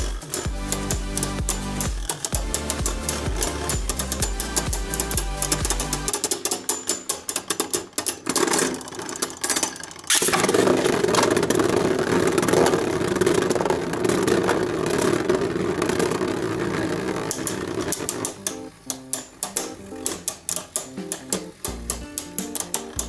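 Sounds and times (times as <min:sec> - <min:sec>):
spinning tops clashing clicks: 0:00.0 - 0:23.0
spinning tops whirring: 0:00.0 - 0:23.0.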